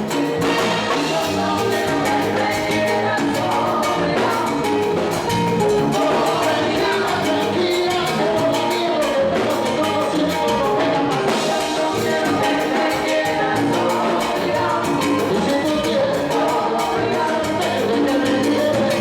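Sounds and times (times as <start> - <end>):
live salsa band playing: 0.0 - 19.0.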